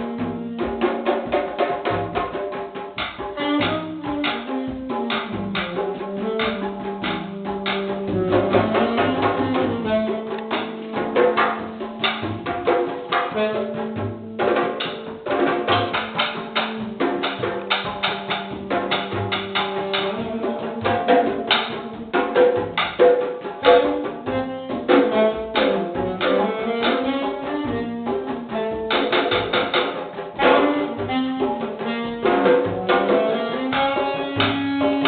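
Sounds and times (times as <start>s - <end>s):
drum strokes: 0.0s - 35.0s
sticks clacking on drums: 0.9s - 27.4s, 28.1s - 35.0s.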